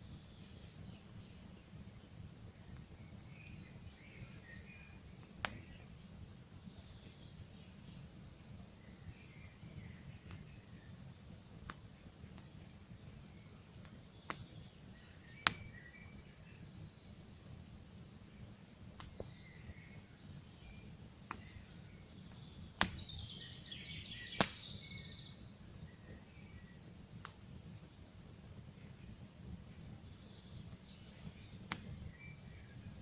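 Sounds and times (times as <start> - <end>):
small birds chirping: 0.0 - 33.0
campfire crackling and popping: 0.4 - 33.0.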